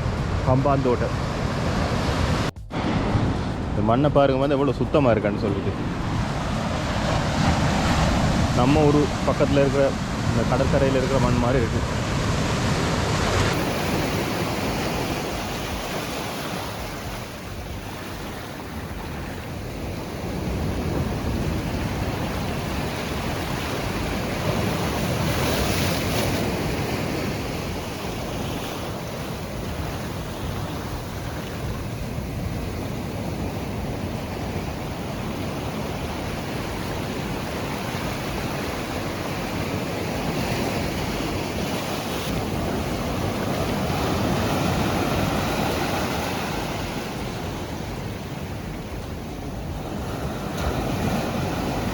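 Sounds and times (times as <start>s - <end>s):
ocean surf breaking on beach: 0.0s - 51.9s
wind buffeting microphone: 0.0s - 51.9s.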